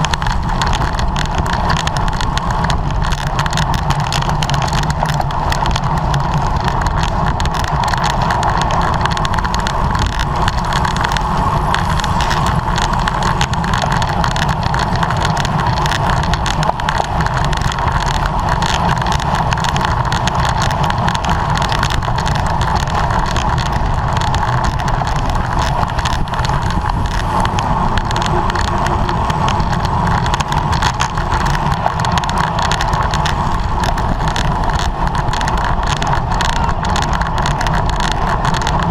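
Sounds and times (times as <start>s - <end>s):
bicycle road noise: 0.0s - 38.9s
wind rush: 0.0s - 38.9s.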